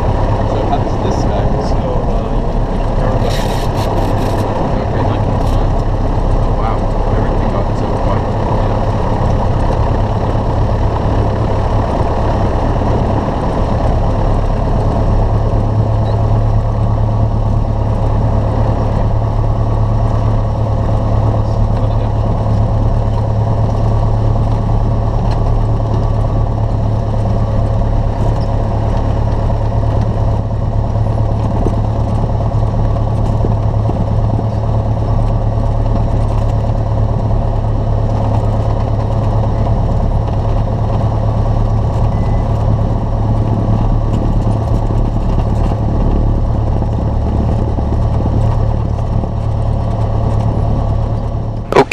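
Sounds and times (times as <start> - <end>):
airplane engine and propeller idling: 0.0 - 51.9.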